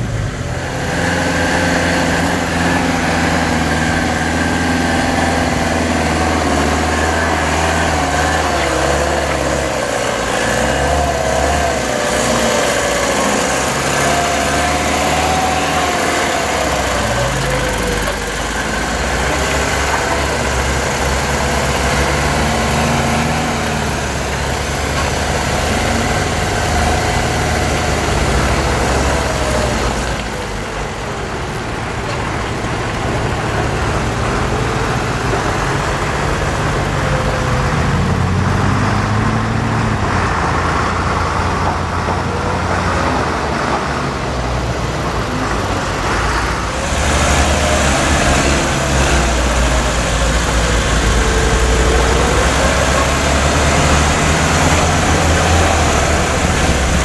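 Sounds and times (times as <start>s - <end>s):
diesel truck engine revving: 0.0s - 57.0s.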